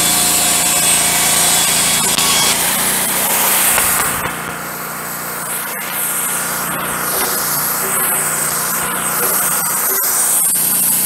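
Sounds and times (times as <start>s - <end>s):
band blade cutting wood: 0.0s - 11.0s
engine running under load: 0.0s - 11.0s.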